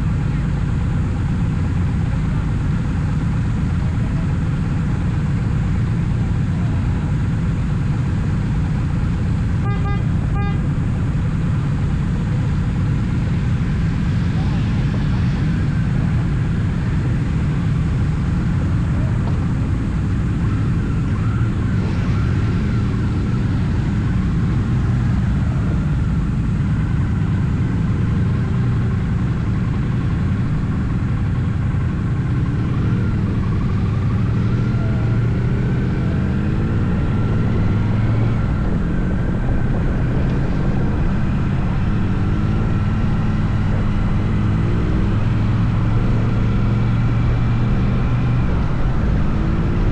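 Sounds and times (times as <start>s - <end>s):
motorcycle engine cruising: 0.0s - 49.9s
road and wind noise: 0.0s - 49.9s.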